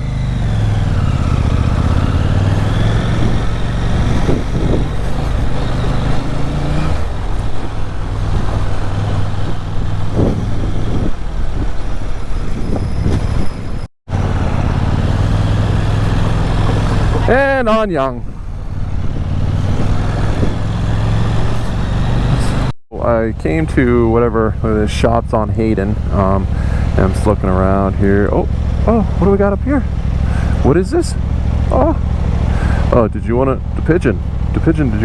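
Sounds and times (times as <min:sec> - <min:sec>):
motorcycle engine running: 0:00.0 - 0:11.9, 0:14.1 - 0:35.0
noisy rush: 0:00.0 - 0:35.0.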